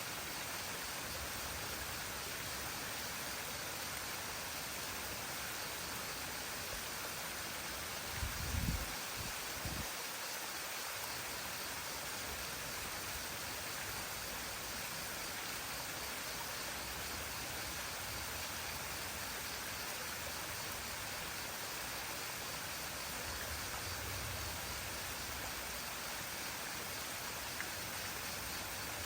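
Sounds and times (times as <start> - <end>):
small waterfall rushing: 0.0 - 29.0.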